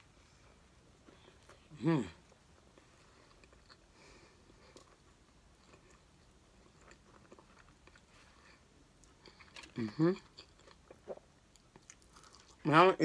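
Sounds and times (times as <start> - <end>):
faint chewing: 0.1 - 12.7.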